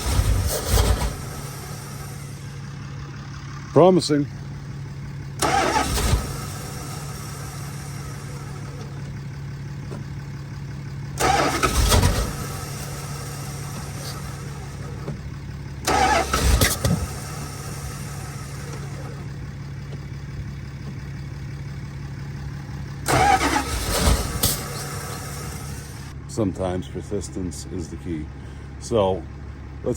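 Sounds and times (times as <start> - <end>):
engine cranking and sputtering: 0.0 - 29.9.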